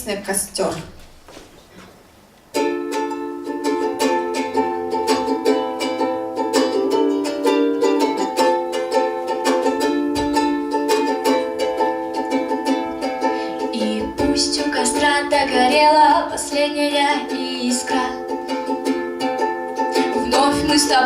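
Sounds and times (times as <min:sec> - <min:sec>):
strummed acoustic string instrument: 0:02.5 - 0:21.0.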